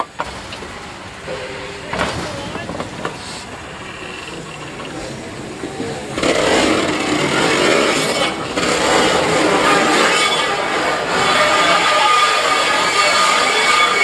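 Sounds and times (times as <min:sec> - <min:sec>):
steam locomotive running: 0:00.0 - 0:14.0.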